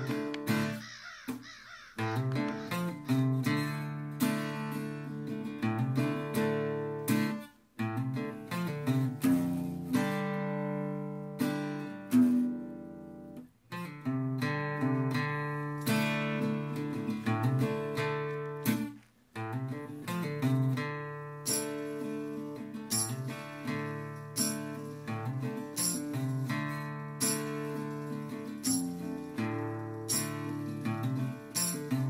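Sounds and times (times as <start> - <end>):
acoustic guitar music: 0.0 - 32.0.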